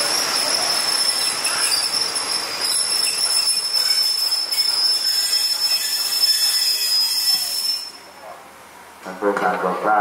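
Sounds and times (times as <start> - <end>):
train wheels squealing: 0.0 - 8.2
train rolling rumble: 0.0 - 10.0.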